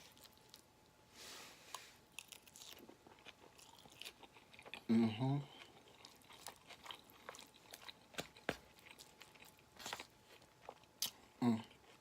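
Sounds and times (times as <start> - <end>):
person chewing: 0.0 - 0.7, 1.7 - 12.0.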